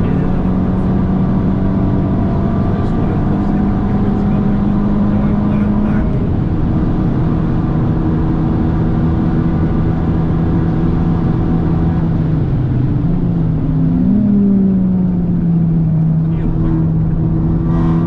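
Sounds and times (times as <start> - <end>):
car engine at high revs: 0.0 - 18.0
wind and road noise: 0.0 - 18.0.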